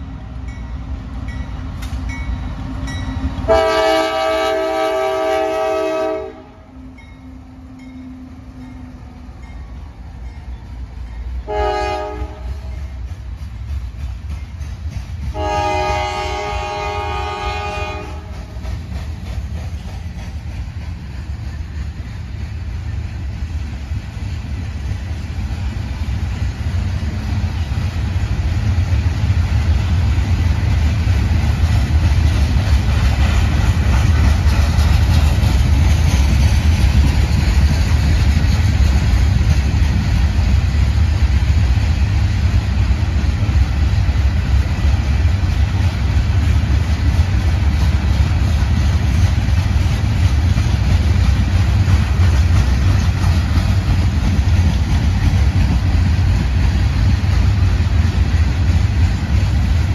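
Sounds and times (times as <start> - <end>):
diesel locomotive engine rumbling: 0.0 - 59.9.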